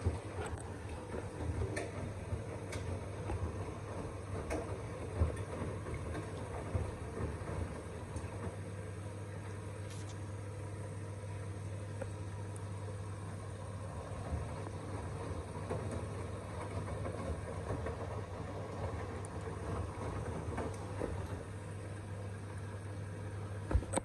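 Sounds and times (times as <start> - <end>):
washing machine drum noise: 0.0 - 9.8, 12.9 - 24.0
washing machine motor hum: 0.0 - 24.0.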